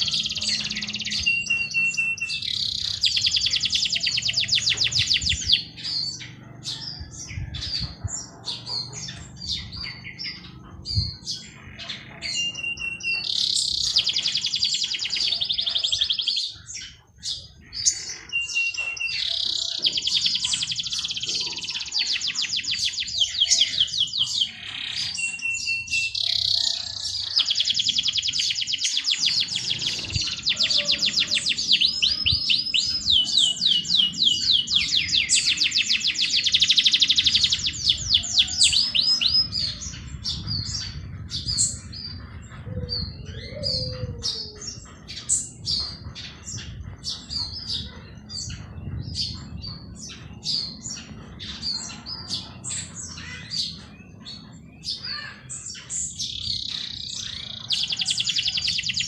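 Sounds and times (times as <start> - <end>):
birds chirping: 0.0 - 59.0
songbirds trilling: 0.0 - 59.0.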